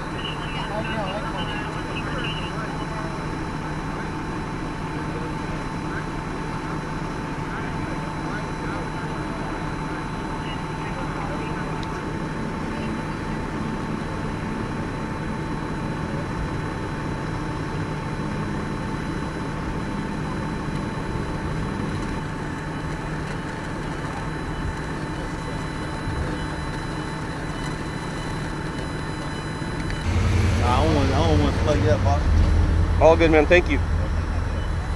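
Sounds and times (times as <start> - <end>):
vehicle engines idling: 0.0 - 34.9.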